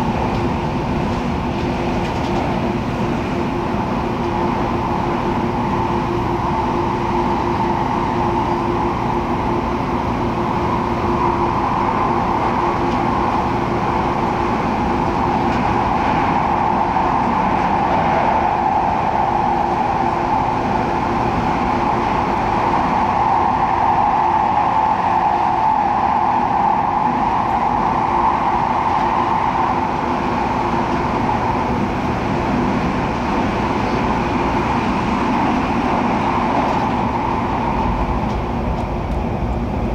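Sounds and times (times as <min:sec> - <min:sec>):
train running rumble: 0:00.0 - 0:39.9.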